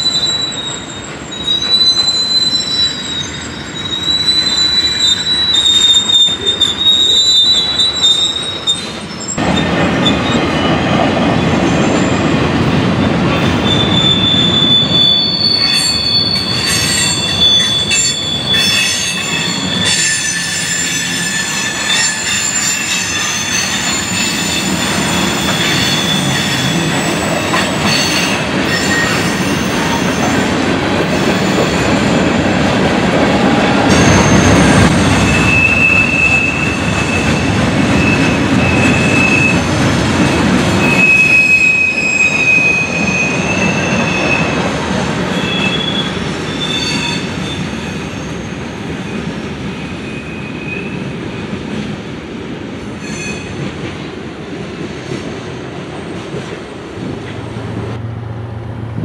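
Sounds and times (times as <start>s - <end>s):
train wheels squealing: 0.0s - 11.0s, 13.4s - 32.4s, 33.8s - 39.7s, 40.8s - 51.5s, 53.0s - 53.7s
train rumble: 0.0s - 46.6s, 47.2s - 59.0s.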